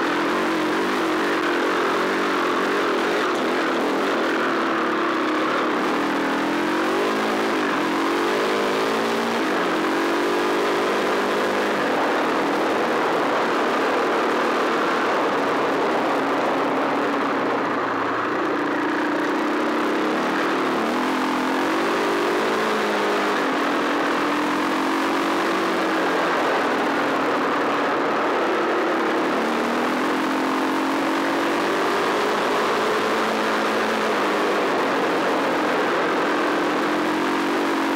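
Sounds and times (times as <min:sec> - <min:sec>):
motorcycle engine revving: 0:00.0 - 0:37.9
steady rushing noise: 0:00.0 - 0:37.9.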